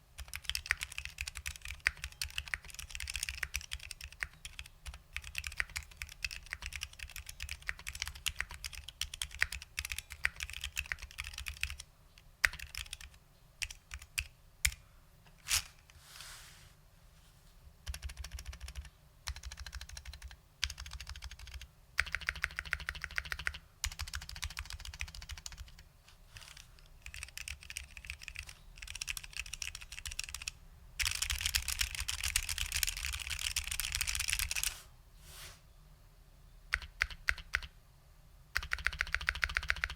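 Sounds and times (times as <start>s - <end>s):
rapid keyboard keystrokes: 0.2s - 11.8s, 12.4s - 14.8s, 17.8s - 25.8s, 26.4s - 34.7s, 36.7s - 37.7s, 38.6s - 39.9s.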